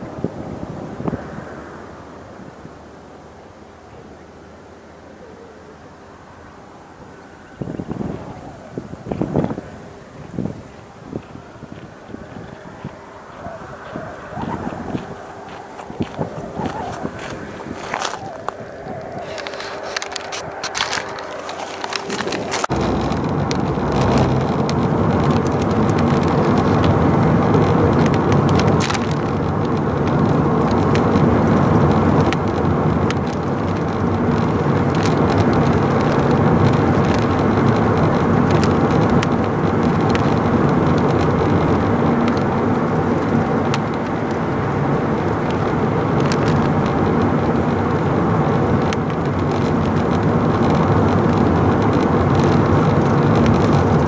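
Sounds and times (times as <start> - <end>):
heavy vehicle engine: 0.0 - 54.0
road noise: 0.0 - 54.0.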